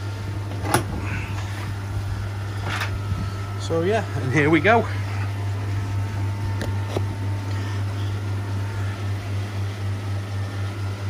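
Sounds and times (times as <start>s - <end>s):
pond pump humming: 0.0s - 11.0s.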